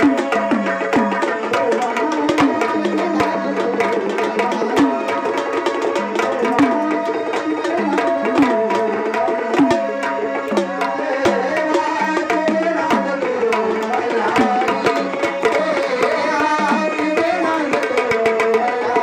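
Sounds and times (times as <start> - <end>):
drums played fast with sticks: 0.0 - 19.0.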